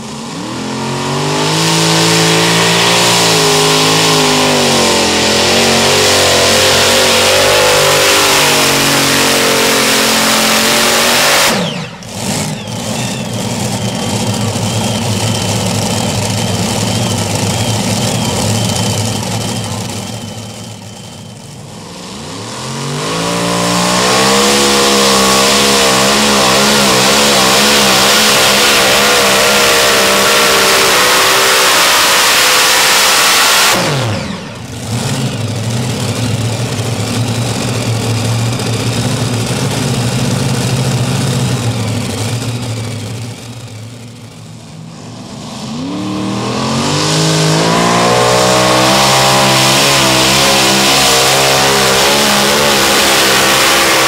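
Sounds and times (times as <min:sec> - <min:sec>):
steady high whine: 0:00.0 - 0:23.0, 0:25.7 - 0:54.0
pulling tractor engines at full throttle: 0:00.0 - 0:54.0.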